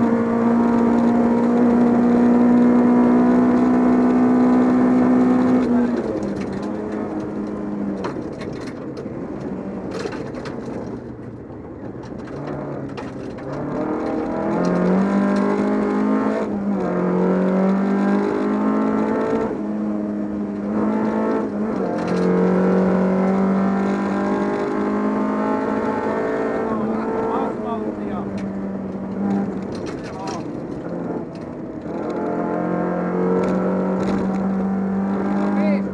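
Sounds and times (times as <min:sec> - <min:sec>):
rally car engine revving: 0:00.0 - 0:11.2, 0:12.0 - 0:35.9.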